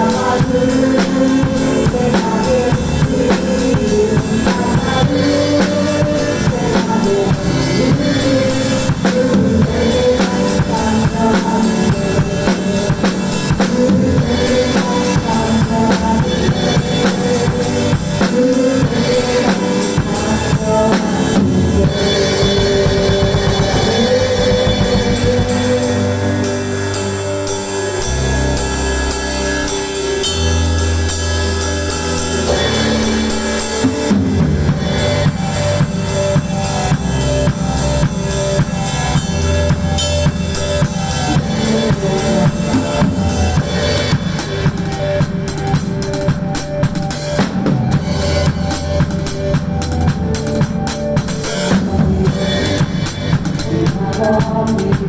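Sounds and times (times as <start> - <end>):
band playing praise song: 0.0 - 55.0
drum kit playing: 0.0 - 55.0.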